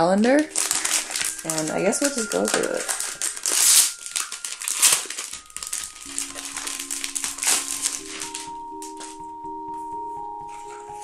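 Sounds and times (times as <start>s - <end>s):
plastic packaging crinkling: 0.0s - 9.3s
soft background music: 0.0s - 11.0s.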